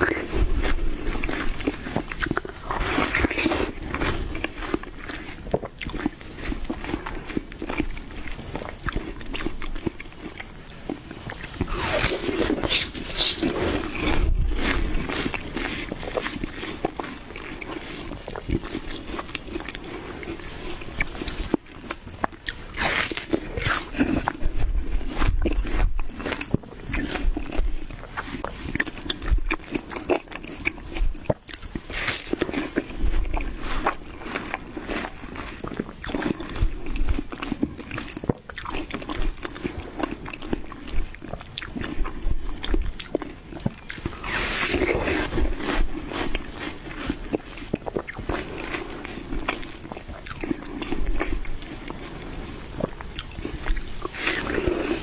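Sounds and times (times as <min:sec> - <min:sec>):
person chewing watermelon: 0:00.0 - 0:55.0.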